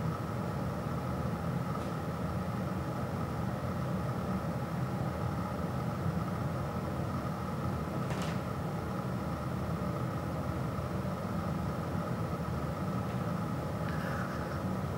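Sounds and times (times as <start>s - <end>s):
low background hum: 0.0s - 14.9s.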